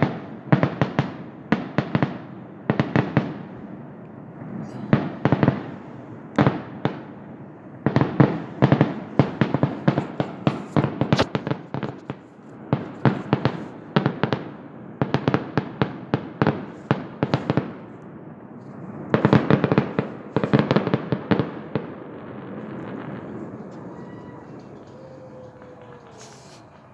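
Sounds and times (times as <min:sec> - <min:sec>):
fireworks bangs and crackling: 0:00.0 - 0:26.9.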